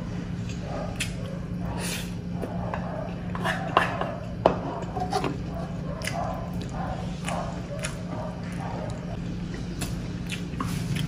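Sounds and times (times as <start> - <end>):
steady low hum: 0.0 - 11.0
wet chewing: 0.4 - 4.1, 4.8 - 11.0.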